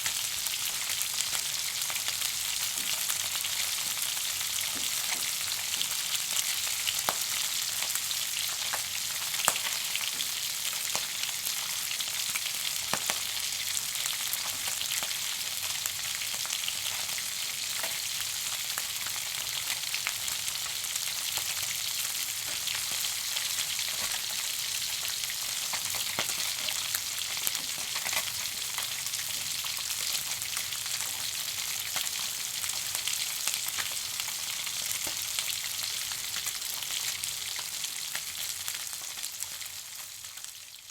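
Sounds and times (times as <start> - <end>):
food sizzling in frying pan: 0.0 - 40.9.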